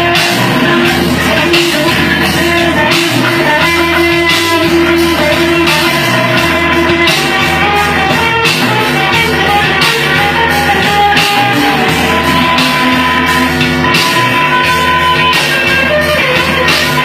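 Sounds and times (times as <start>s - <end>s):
bass guitar: 0.0s - 17.0s
drum hits: 0.0s - 17.0s
rock guitar solo: 0.0s - 17.0s.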